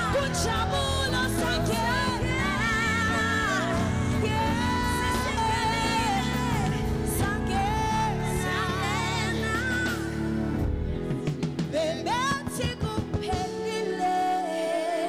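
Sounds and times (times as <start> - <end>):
live band with bass guitar: 0.0 - 13.8
woman singing into a microphone: 0.0 - 15.0.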